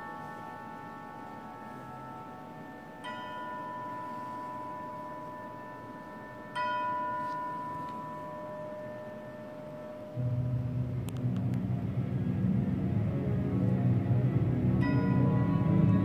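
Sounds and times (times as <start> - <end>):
tubular bells ringing: 0.0 - 11.1, 14.2 - 16.0.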